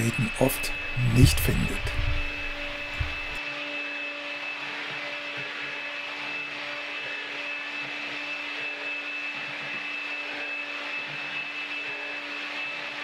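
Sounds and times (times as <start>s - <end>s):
stick vacuum running on carpet: 0.0s - 13.0s.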